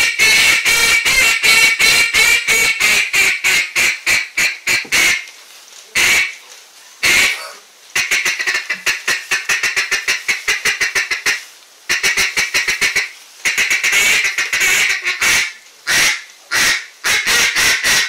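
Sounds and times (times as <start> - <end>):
duck call quacks: 0.0 - 5.3, 6.0 - 6.4, 7.0 - 18.0.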